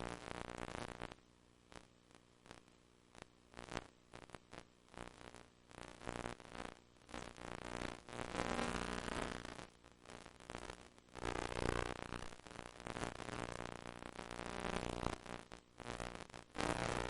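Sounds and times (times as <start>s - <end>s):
crackles and static: 0.0s - 17.0s
low buzzing hum: 0.0s - 17.0s.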